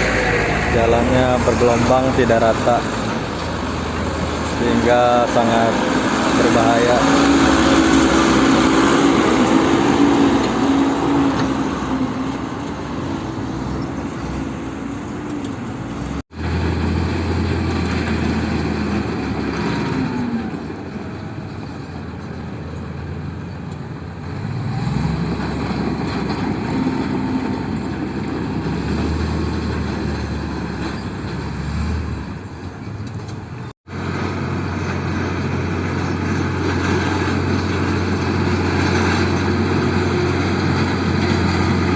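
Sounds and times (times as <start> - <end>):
heavy diesel engine revving: 0.0 - 21.3, 24.2 - 32.5, 33.9 - 41.9.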